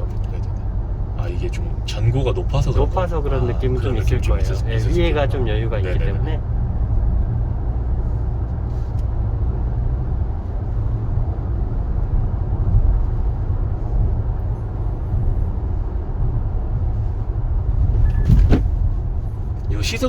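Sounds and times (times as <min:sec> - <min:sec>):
road and engine rumble in cabin: 0:00.0 - 0:20.0.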